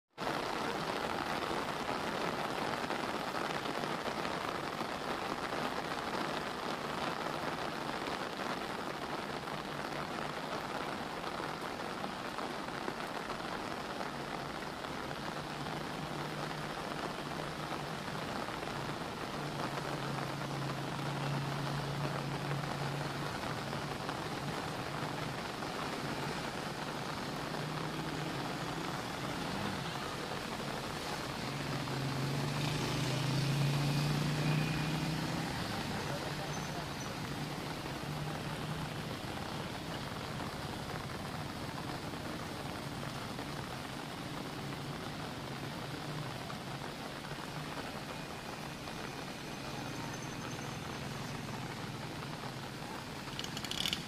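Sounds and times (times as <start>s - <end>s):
rain pouring on rooftops: 0.1s - 54.0s.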